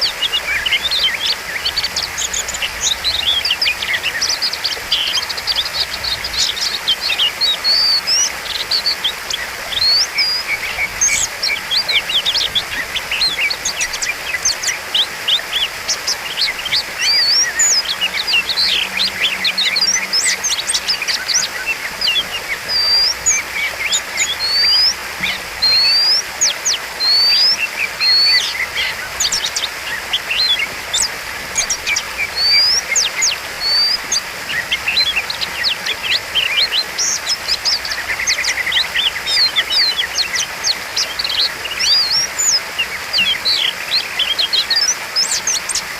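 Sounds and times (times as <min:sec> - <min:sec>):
bird singing whistles and chirps: 0:00.0 - 0:45.9.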